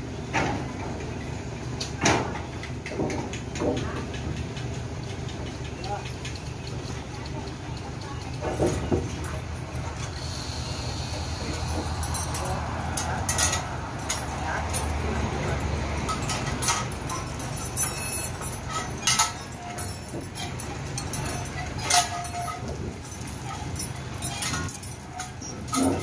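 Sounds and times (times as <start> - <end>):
truck crane engine running: 0.0 - 26.0
steel chains clinking and jangling: 4.4 - 26.0.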